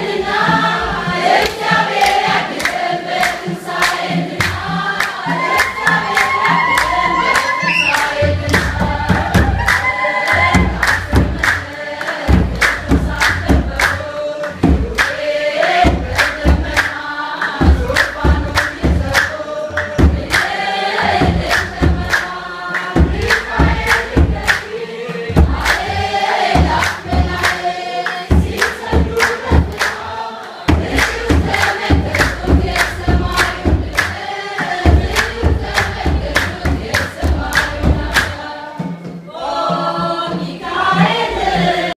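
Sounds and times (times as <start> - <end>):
deep drum beats: 0.0 - 30.1, 30.7 - 41.9
crowd singing a hymn: 0.0 - 41.9
hand clapping: 1.3 - 24.8, 25.5 - 38.4.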